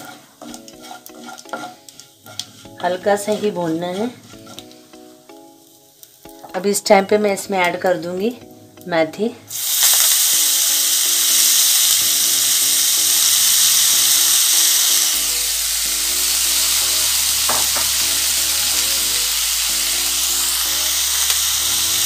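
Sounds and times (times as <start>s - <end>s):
leaves sizzling in hot oil: 0.0s - 8.1s, 9.5s - 22.0s
background music melody: 0.0s - 22.0s.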